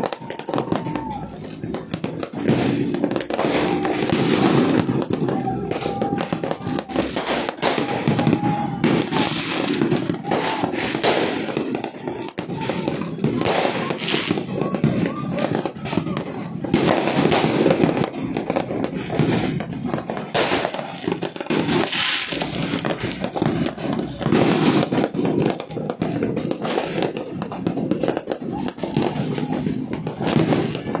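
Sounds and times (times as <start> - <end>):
fireworks and firecrackers banging: 0.0 - 31.0.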